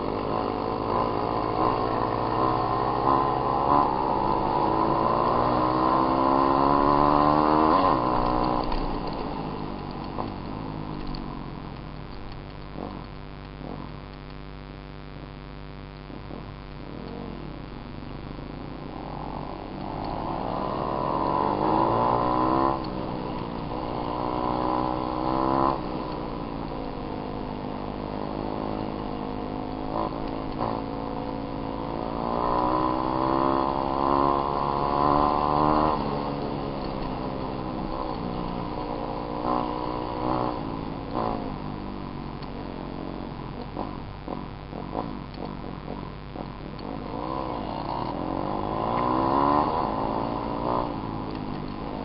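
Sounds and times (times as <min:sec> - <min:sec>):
dirt bike engine revving: 0:00.0 - 0:13.9, 0:16.1 - 0:52.0.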